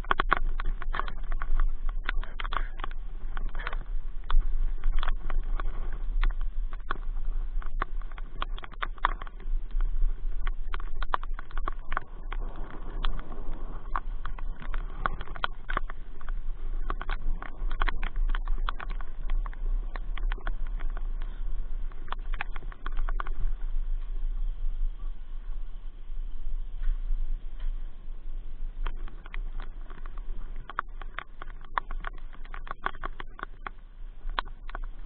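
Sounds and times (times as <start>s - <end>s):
sharp taps of raindrops: 0.0s - 24.3s, 26.7s - 35.0s
steady low rumble: 0.0s - 35.0s.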